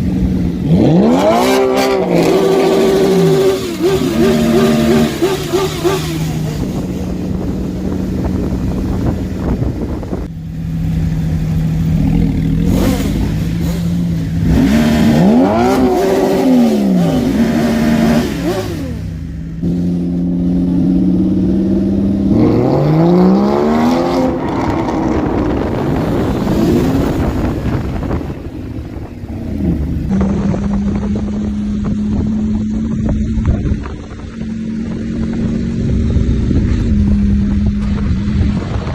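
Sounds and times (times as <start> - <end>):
engine revving: 0.0 - 38.9
engines idling: 0.0 - 38.9.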